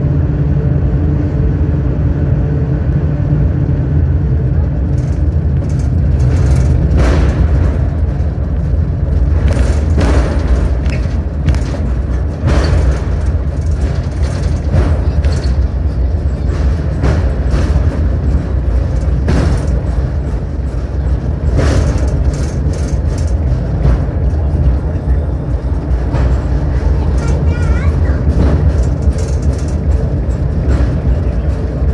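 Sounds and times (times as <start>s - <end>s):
cable car low rumble: 0.0s - 31.9s
sharp clacks: 4.9s - 31.9s.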